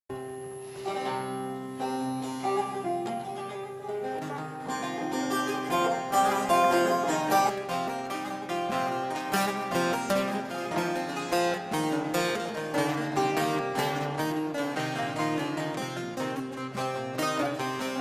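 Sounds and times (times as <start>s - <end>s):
plucked long-necked lutes playing: 0.1s - 18.0s.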